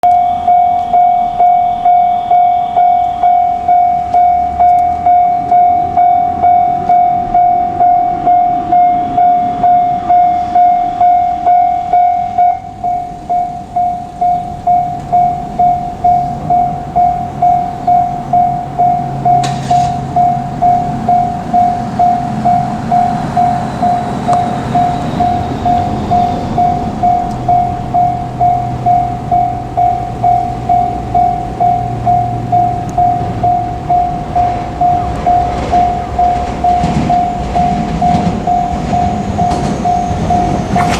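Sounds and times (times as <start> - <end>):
electric train hum and rumble: 0.0 - 40.9
level-crossing warning bell ringing: 0.0 - 40.9.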